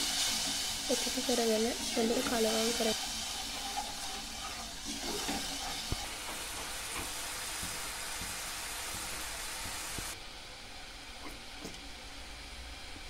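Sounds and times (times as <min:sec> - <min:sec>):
sauce boiling in a pot: 0:00.0 - 0:13.0.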